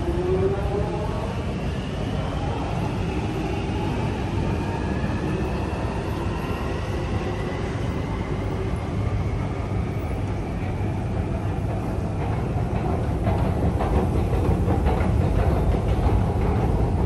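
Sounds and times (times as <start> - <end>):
low rumble of station machinery: 0.0 - 17.0.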